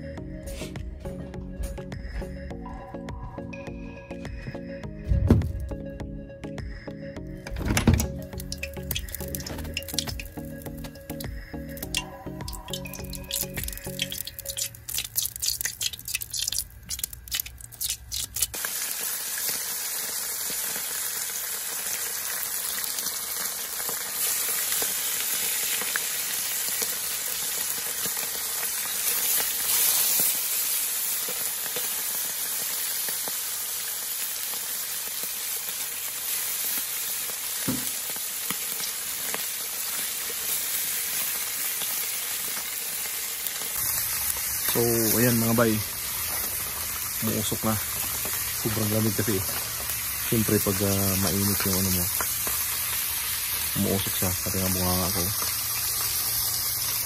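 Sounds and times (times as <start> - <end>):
fish frying in hot oil: 8.2 - 57.0.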